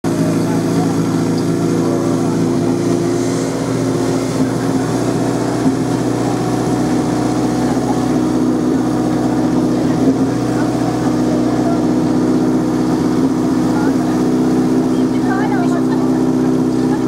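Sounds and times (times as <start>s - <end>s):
small engine humming: 0.0s - 17.0s.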